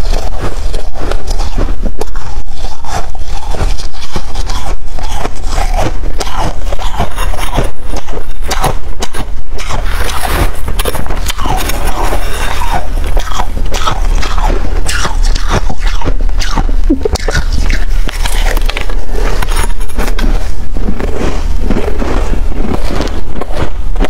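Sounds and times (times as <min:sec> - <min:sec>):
frost crunching as chewed: 0:00.0 - 0:24.0.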